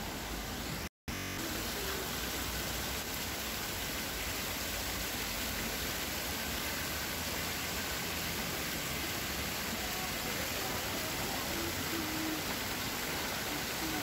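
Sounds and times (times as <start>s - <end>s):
fountain water splashing: 1.4s - 14.0s.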